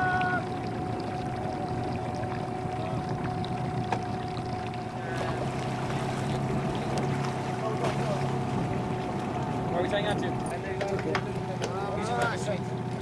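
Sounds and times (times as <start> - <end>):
boat motor running: 0.0 - 13.0
low hum: 0.0 - 13.0
water noise: 0.0 - 13.0
wind: 0.0 - 13.0.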